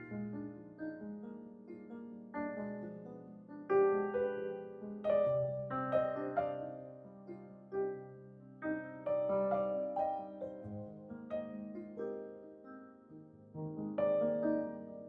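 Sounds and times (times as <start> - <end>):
gentle solo piano: 0.0 - 15.0.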